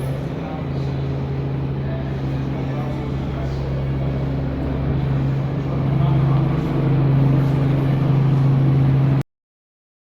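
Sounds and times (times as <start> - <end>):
engine droning: 0.0 - 9.2.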